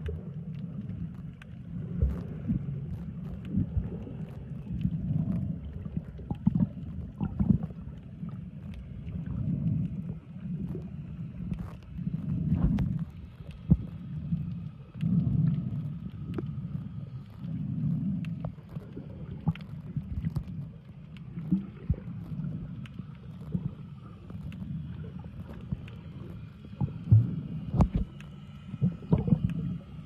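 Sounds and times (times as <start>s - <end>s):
faint steady whine: 0.0s - 30.0s
muffled low underwater rumble: 0.0s - 30.0s.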